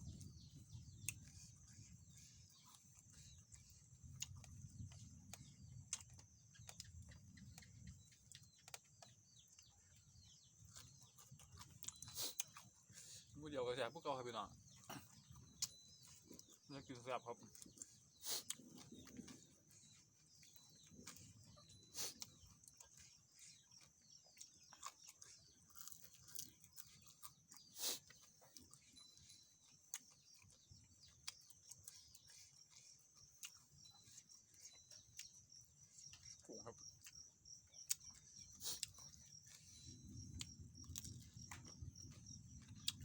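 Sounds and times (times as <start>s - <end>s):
insects chirring: 0.0s - 43.0s
eating clicks and smacks: 0.1s - 13.0s, 14.7s - 43.0s.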